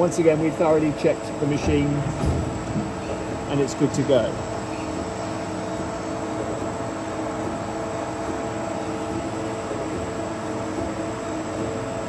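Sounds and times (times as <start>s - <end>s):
machine humming with held tones: 0.0s - 12.0s.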